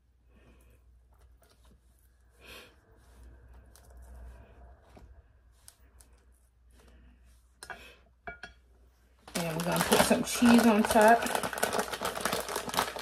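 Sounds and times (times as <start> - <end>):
onion rings rustling: 0.3 - 8.0, 8.8 - 13.0.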